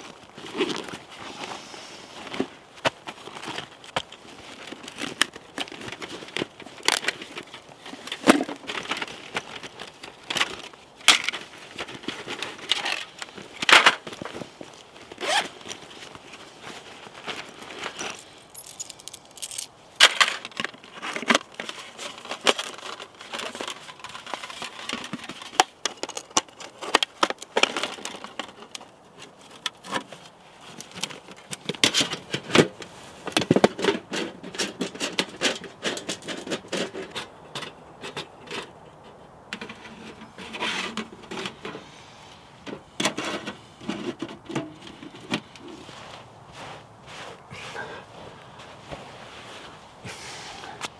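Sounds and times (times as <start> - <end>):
camping gear clinking and rattling: 0.0 - 50.9.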